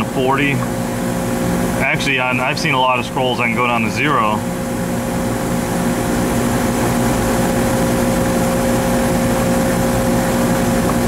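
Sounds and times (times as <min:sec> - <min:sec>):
air conditioning compressor humming: 0:00.0 - 0:11.0.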